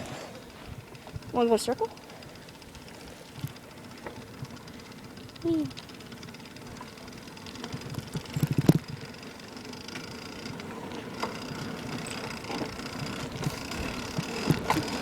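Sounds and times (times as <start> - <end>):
bicycle chain rattling: 0.0 - 15.0.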